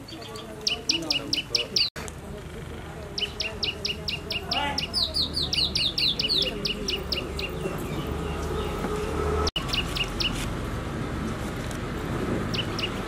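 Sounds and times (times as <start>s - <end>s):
small birds chirping: 0.0s - 10.5s, 12.4s - 13.0s.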